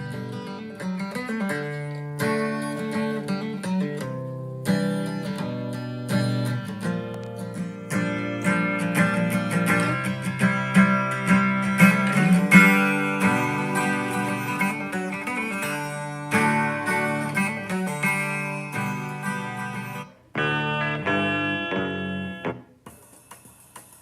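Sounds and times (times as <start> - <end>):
guitar-led instrumental music: 0.0 - 24.0.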